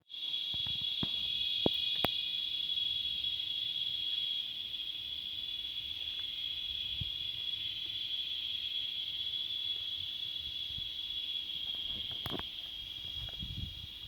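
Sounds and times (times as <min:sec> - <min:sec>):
cicadas droning: 0:00.0 - 0:14.0.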